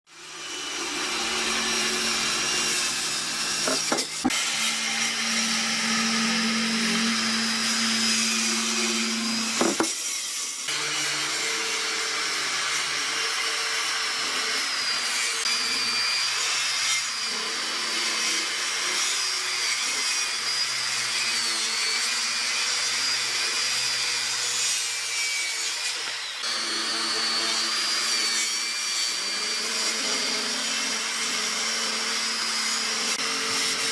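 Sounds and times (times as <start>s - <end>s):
power tools cutting wood: 0.1s - 33.9s.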